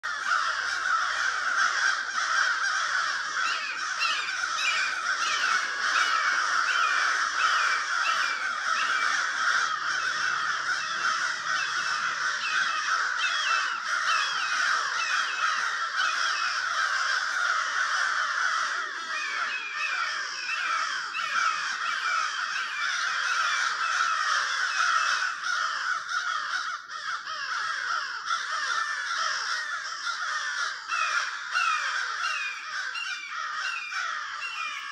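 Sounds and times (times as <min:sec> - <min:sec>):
flock of crows cawing: 0:00.0 - 0:34.9.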